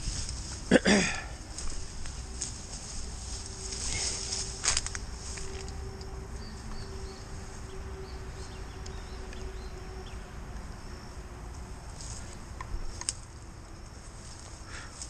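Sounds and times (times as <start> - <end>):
insects humming: 0.0 - 15.0.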